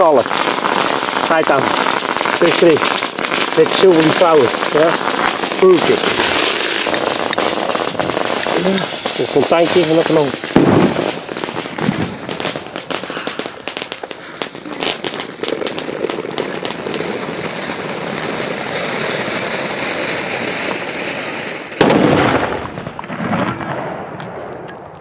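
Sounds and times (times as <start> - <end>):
firework spraying sparks: 0.0 - 22.9
firework bang: 0.0 - 24.7.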